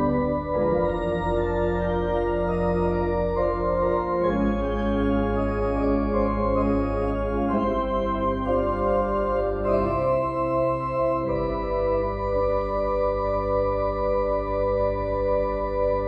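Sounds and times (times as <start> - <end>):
organ music: 0.0 - 16.0.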